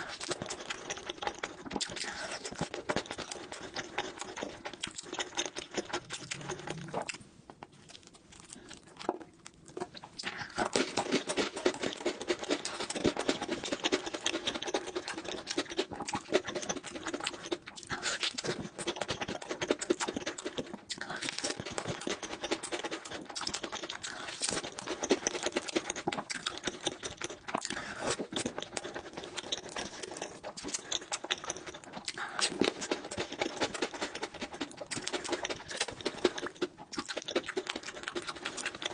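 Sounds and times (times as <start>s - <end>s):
wet chewing mouth sounds: 0.0s - 38.9s.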